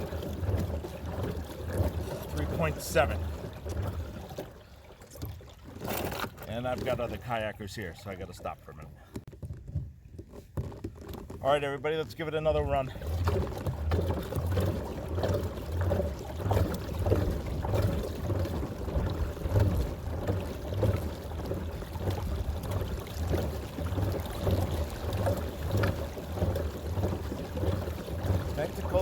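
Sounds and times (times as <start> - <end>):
water splashing along kayak hull: 0.0 - 29.0.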